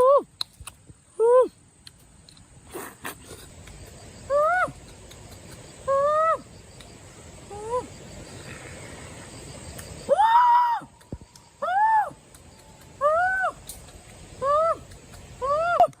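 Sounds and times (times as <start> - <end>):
high insect drone: 1.0 - 16.0.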